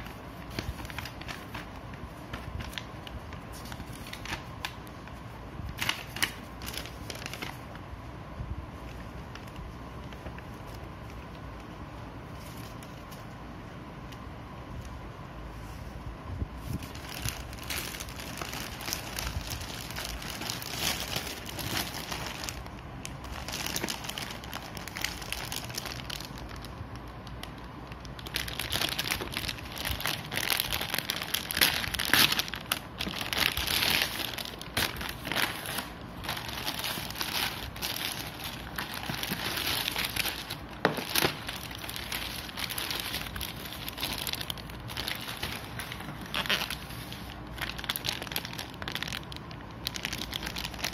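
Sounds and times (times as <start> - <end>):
plastic packaging crinkling: 0.0 - 7.9, 8.7 - 13.3, 16.6 - 50.9.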